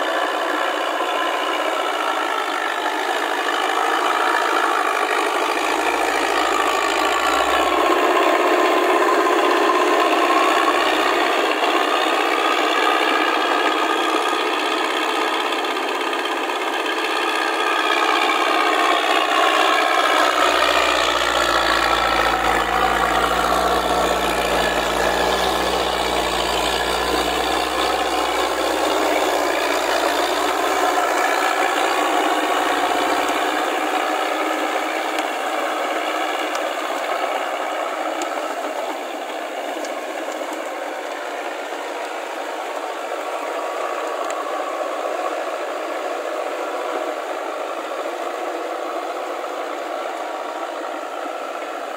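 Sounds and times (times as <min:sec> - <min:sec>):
steel wheels rattling and clanking: 0:00.0 - 0:44.9
tractor engine running: 0:00.0 - 0:51.9.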